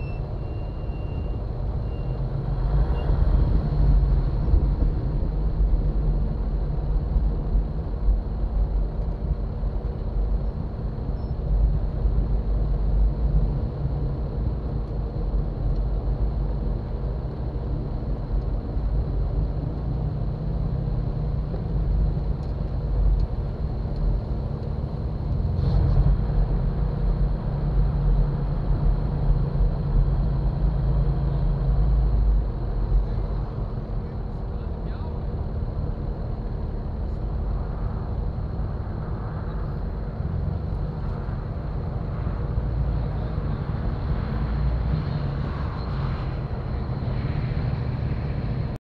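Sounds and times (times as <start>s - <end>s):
engine low rumble: 0.0s - 48.8s.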